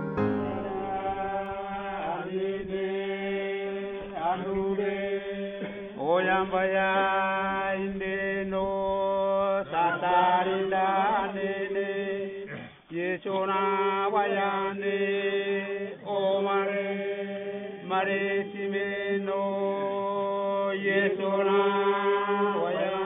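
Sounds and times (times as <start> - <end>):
chant-like melody: 0.0 - 23.0.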